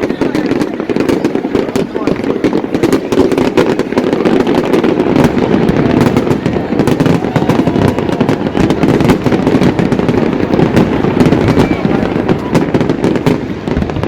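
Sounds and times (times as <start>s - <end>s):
fireworks booming: 0.0s - 14.0s
fireworks crackling: 0.0s - 14.0s.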